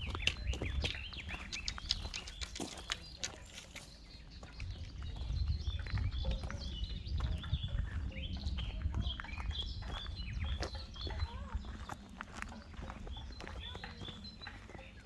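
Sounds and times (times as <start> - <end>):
footsteps on a trail: 0.0 - 15.0
small birds chirping: 0.0 - 15.0.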